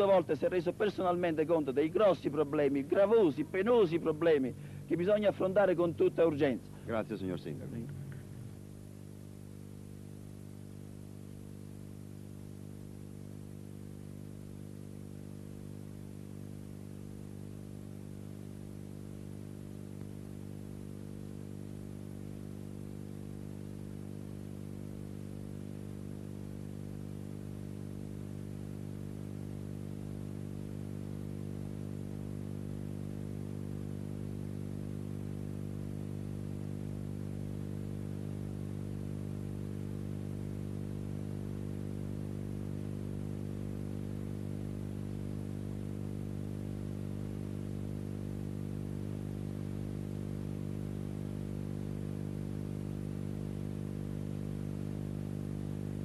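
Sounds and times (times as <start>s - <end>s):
faint hiss: 0.0s - 56.0s
steady low hum: 0.0s - 56.0s.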